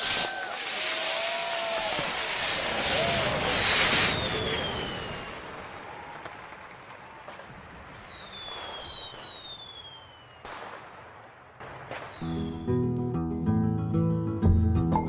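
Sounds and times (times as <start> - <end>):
firework bangs: 0.0 - 12.6
whistling firework rockets: 0.0 - 13.0.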